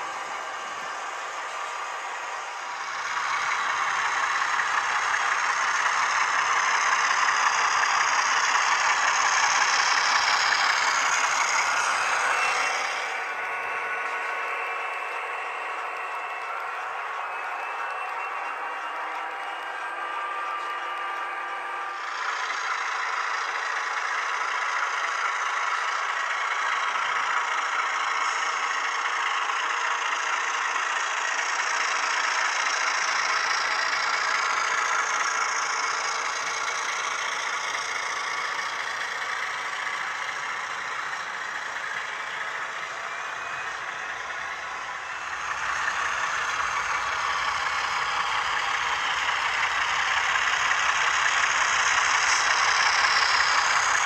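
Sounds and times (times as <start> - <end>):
model locomotive diesel engine sound: 0.0 - 54.0
model train cars on track: 0.0 - 54.0.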